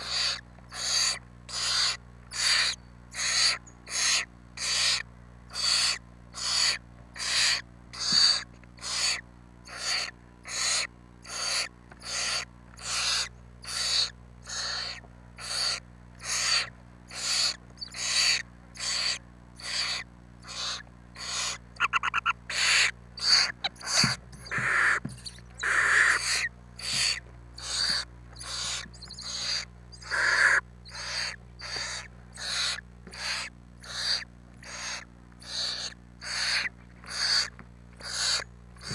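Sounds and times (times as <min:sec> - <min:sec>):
owl chicks hissing begging calls: 0:00.0 - 0:38.9.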